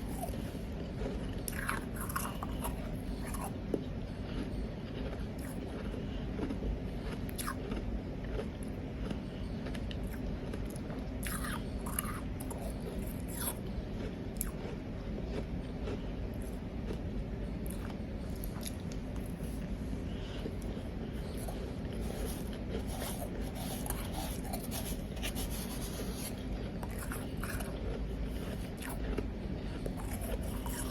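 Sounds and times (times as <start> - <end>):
chewing powdery ice: 0.0 - 30.9.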